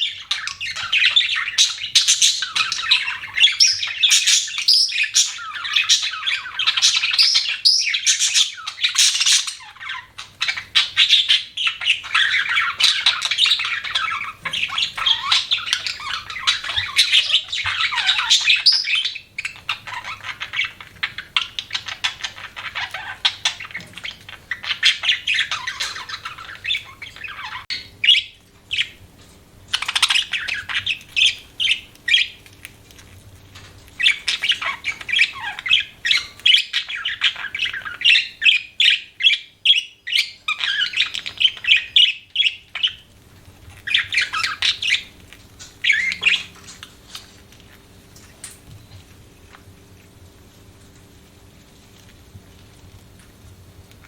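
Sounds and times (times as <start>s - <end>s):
budgerigars chattering and chirping: 0.0s - 29.0s, 29.7s - 32.5s, 34.0s - 43.1s, 43.7s - 47.1s.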